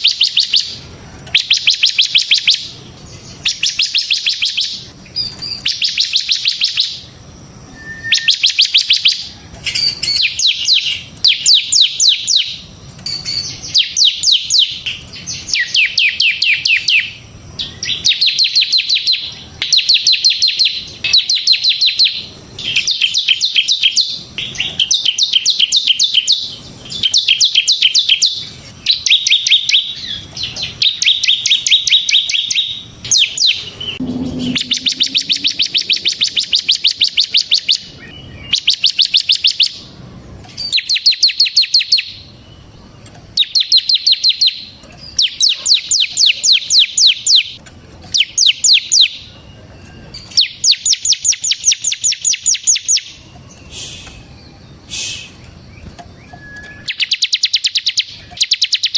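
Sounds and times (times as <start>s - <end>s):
bird singing rapid trills: 0.0s - 58.9s.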